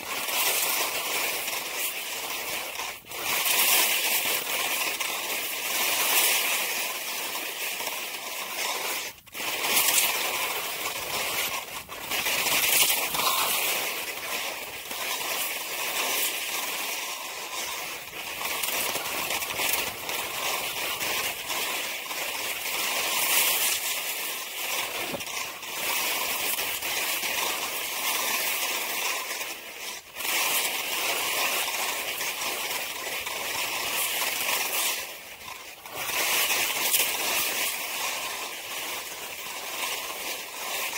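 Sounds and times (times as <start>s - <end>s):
skis scraping over snow: 0.0s - 40.9s.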